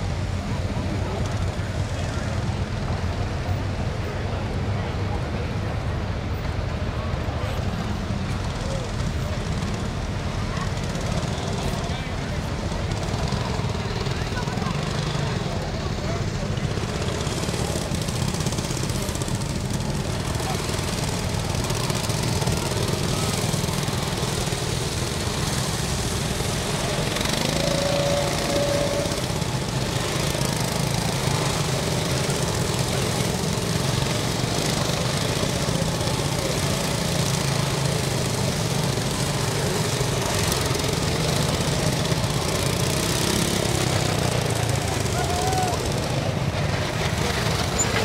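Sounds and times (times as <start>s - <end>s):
go-kart engines passing: 0.0s - 48.0s.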